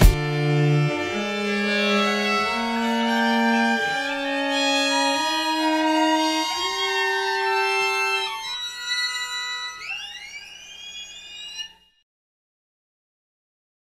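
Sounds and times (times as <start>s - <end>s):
music with long held notes: 0.0s - 11.8s.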